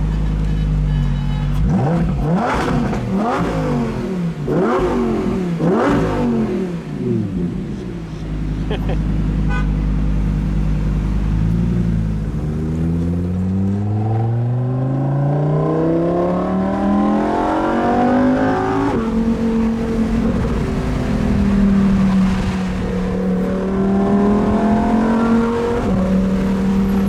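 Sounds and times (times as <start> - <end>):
sports car engine revving: 0.0 - 27.0.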